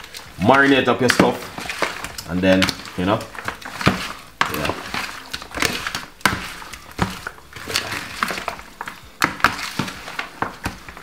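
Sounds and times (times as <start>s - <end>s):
metal spoon knocking plastic bowl: 0.6s - 11.0s.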